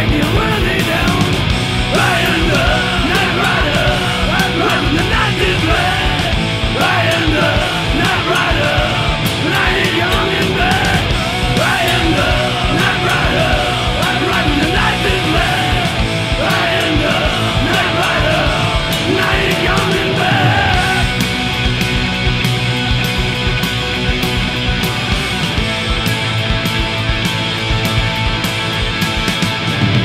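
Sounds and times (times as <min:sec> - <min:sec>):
bass guitar: 0:00.0 - 0:30.0
distorted electric guitars: 0:00.0 - 0:30.0
drums: 0:00.0 - 0:30.0.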